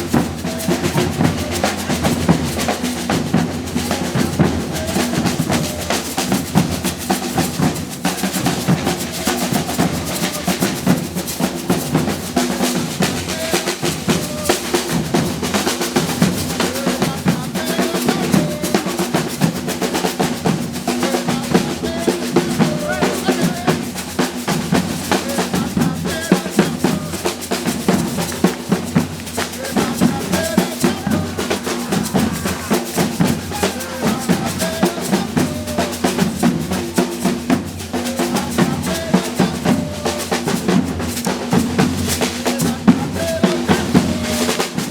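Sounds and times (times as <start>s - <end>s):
percussion group drumming: 0.0s - 44.9s
snare drum rolls: 0.0s - 44.9s.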